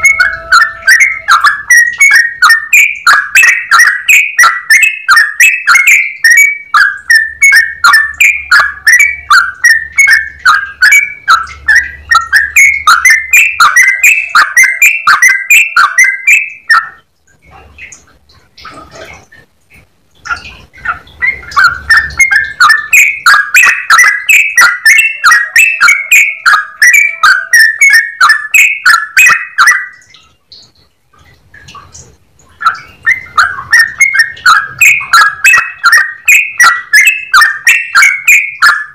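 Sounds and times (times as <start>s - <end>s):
bird singing bubbly chatter: 0.0s - 38.9s.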